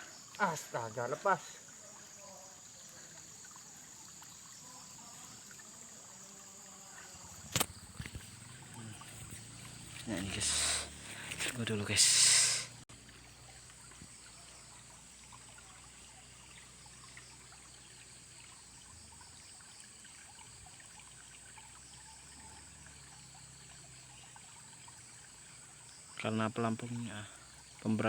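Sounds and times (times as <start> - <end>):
river water trickling: 0.0 - 28.0.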